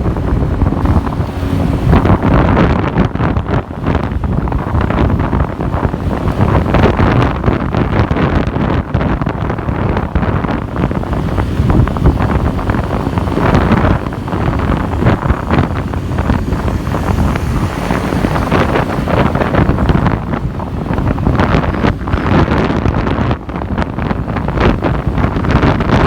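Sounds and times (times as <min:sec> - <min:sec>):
motorbike engine: 0:00.0 - 0:26.0
traffic: 0:00.0 - 0:26.0
wind buffeting microphone: 0:00.0 - 0:26.0.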